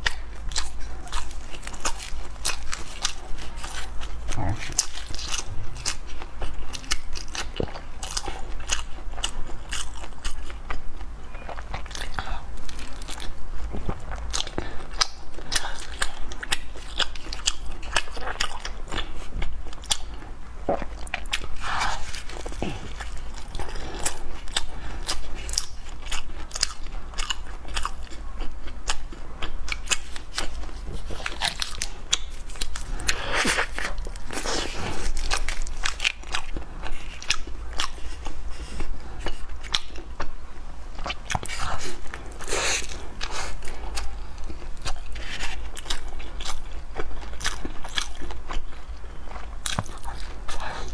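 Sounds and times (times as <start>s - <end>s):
chewing with mouth clicks: 0.0s - 50.9s.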